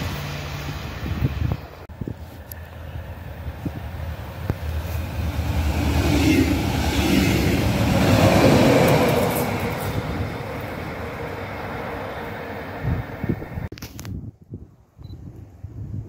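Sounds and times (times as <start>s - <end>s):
train passing at speed: 0.0s - 13.7s.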